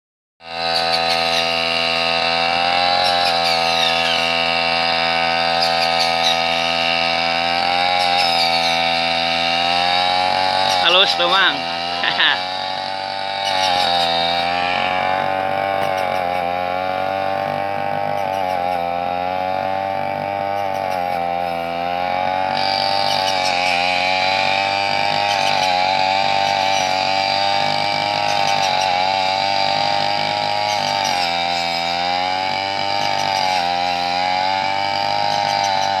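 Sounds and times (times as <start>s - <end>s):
brush cutter engine at high revs: 0.4s - 36.0s.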